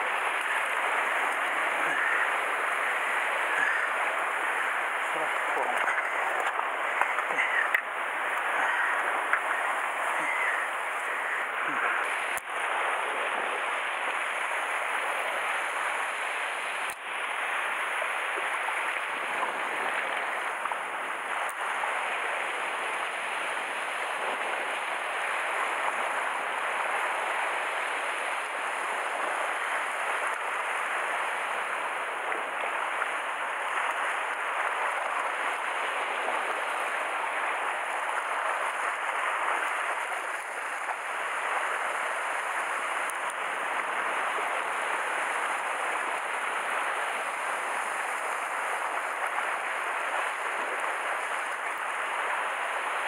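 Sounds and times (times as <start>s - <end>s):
surf washing against rocks: 0.0s - 53.0s.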